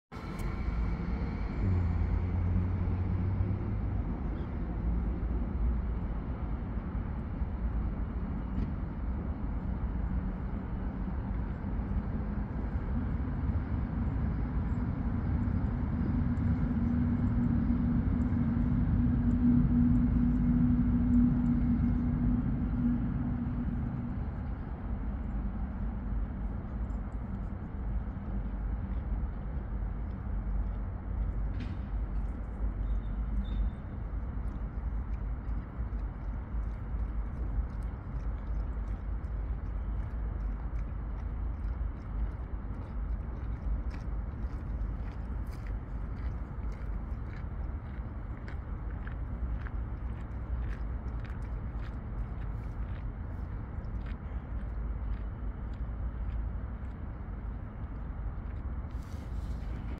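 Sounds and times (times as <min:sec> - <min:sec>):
distant traffic rumble: 0:00.1 - 0:59.9
engine hum: 0:00.1 - 0:59.9.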